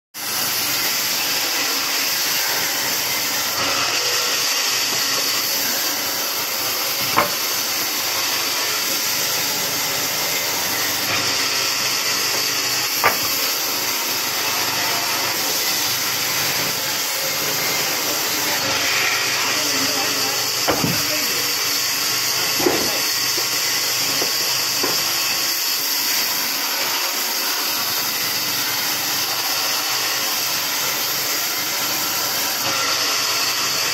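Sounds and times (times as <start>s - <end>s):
band saw cutting wood: 0.2s - 33.9s.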